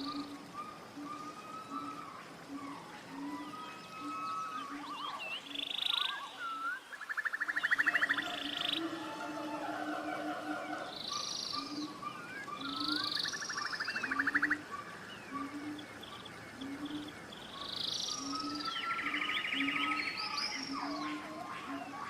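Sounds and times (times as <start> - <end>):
birds singing and calling: 0.0 - 22.0.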